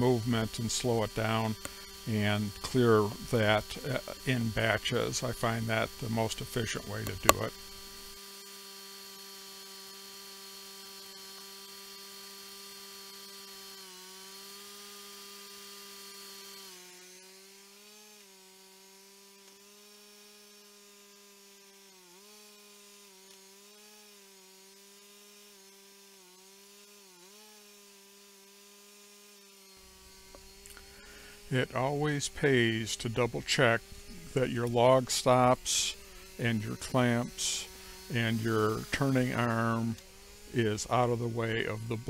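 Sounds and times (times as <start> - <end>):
band sawmill humming: 0.0 - 27.8, 28.4 - 42.0.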